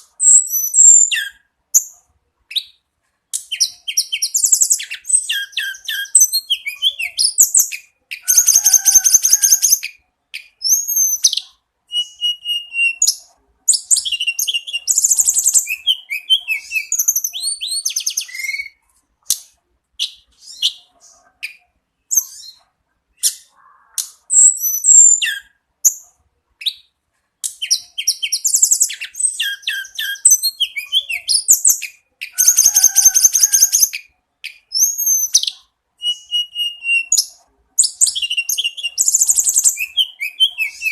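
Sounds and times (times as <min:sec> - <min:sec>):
bird singing chirps and trills: 0:03.4 - 0:26.1, 0:26.7 - 0:40.9.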